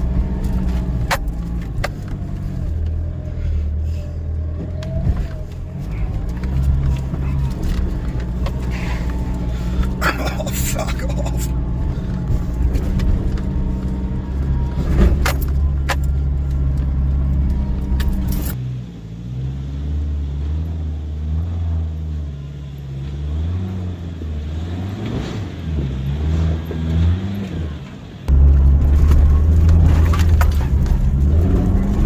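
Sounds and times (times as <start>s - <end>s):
engine revving under load: 0.0s - 32.0s.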